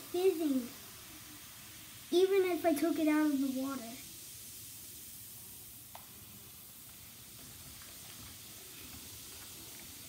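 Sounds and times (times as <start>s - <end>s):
faint fizzing hiss: 0.0s - 10.0s.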